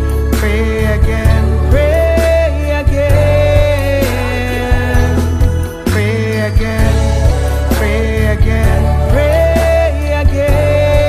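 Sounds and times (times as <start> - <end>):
steady bass: 0.0 - 11.0.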